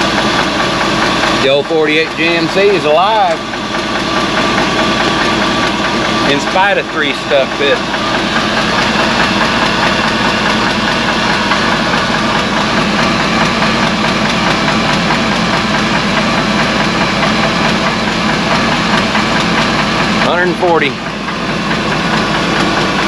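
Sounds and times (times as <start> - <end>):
light engine rattle: 0.0 - 23.0
truck engine idling: 0.0 - 23.0.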